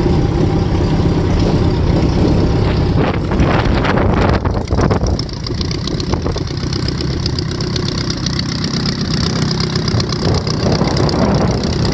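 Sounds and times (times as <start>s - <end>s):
aircraft engine idling: 0.0s - 11.9s.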